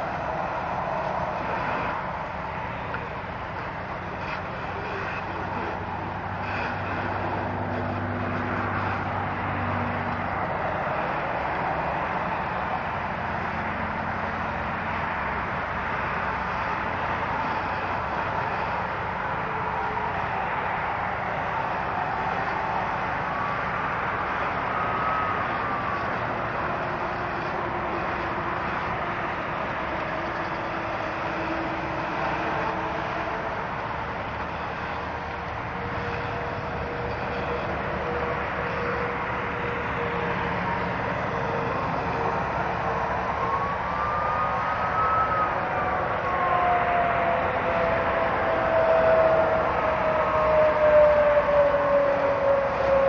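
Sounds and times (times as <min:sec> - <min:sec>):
highway traffic passing: 0:00.0 - 0:53.0
siren wailing: 0:00.0 - 0:53.0.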